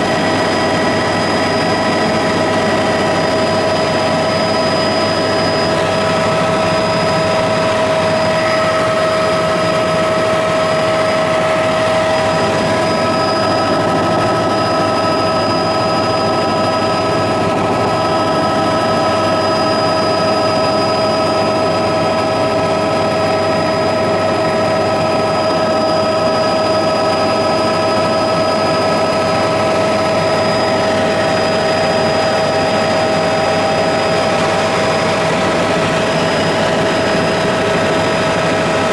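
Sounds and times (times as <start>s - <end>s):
aircraft engine rushing noise: 0.0s - 38.9s
steady whining tones: 0.0s - 38.9s.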